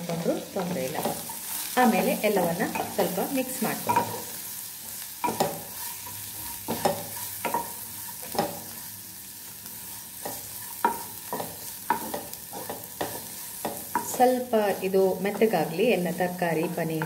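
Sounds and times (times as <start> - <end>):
hot oil sizzling: 0.0 - 17.0
wooden spatula scraping a pan: 0.6 - 8.9, 9.7 - 17.0.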